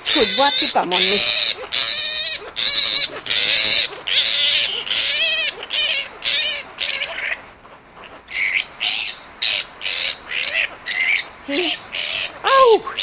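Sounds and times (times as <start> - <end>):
flying fox shrieking: 0.0 - 13.0.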